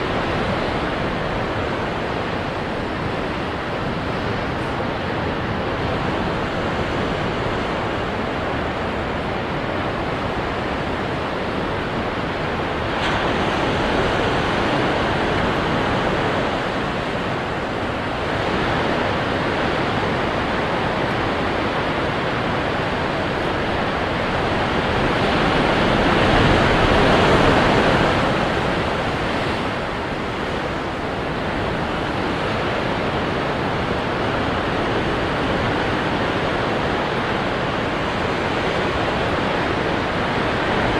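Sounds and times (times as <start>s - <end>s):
ocean waves breaking on rocks: 0.0s - 40.9s.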